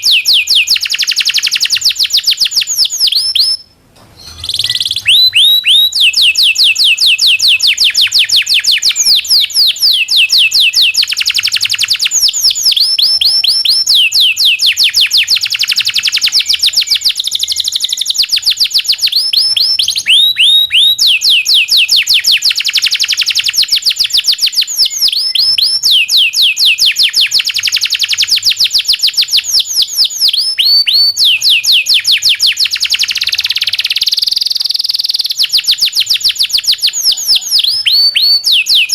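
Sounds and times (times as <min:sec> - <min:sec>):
canary singing rolling trills: 0:00.0 - 0:38.9.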